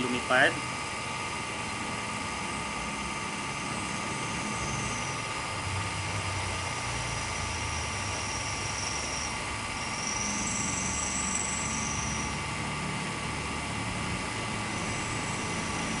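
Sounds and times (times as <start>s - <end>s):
deeper whir: 0.0s - 16.0s
drone propellers whirring: 0.0s - 16.0s.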